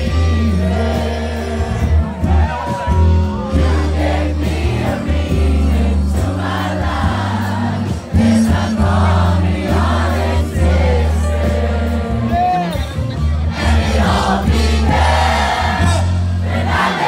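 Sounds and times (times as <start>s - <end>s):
bass: 0.0s - 17.0s
crowd singing along: 0.0s - 17.0s
live band playing a ballad: 0.0s - 17.0s.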